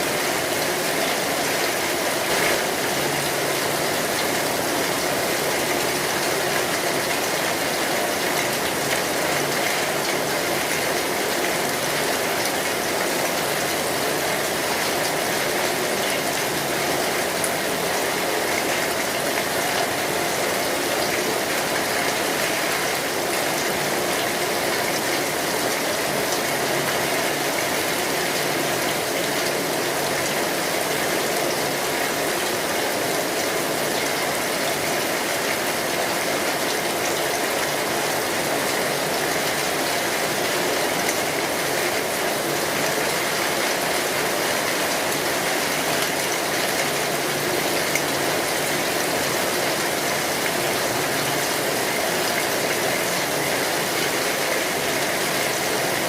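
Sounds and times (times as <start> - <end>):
rain drumming on metal roof: 0.0 - 56.0.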